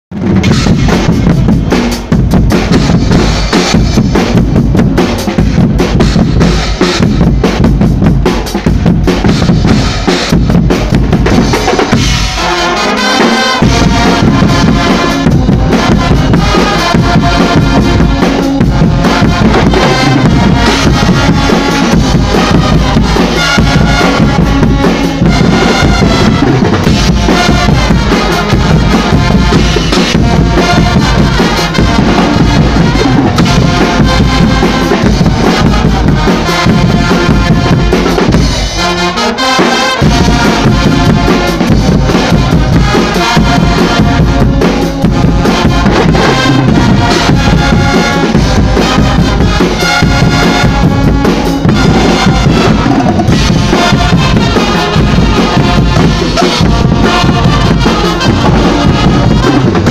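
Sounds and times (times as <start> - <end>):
brass band playing: 0.0 - 59.9
drum kit pounding: 0.0 - 59.9.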